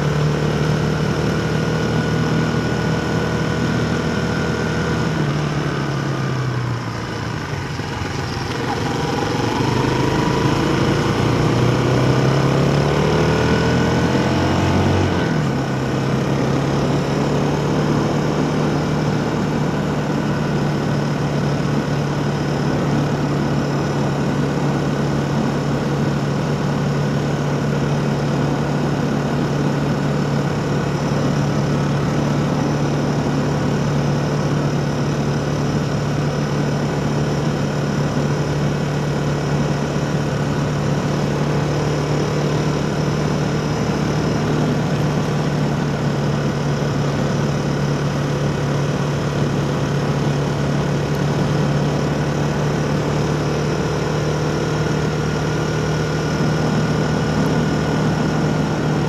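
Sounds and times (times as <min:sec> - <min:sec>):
steady motor hum: 0:00.0 - 0:59.0.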